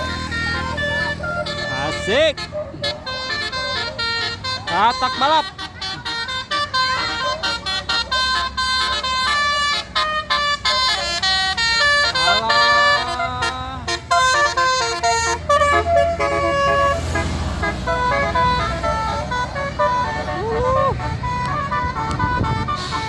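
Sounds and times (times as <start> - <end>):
low engine rumble: 0.0 - 23.0
musical bus horn tune: 0.0 - 23.0.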